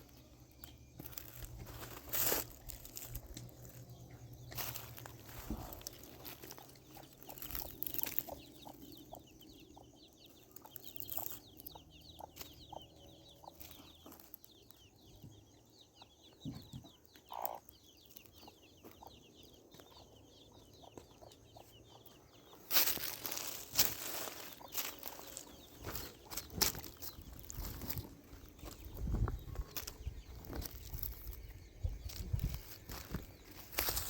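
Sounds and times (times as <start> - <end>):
chicken clucking: 0.6 - 33.8.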